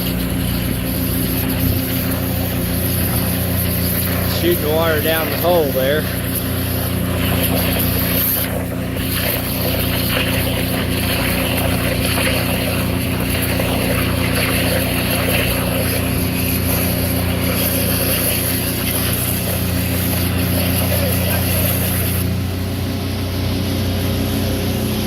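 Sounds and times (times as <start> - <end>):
suction and water spray hiss: 0.0 - 22.3
engine and blower drone: 0.0 - 25.0.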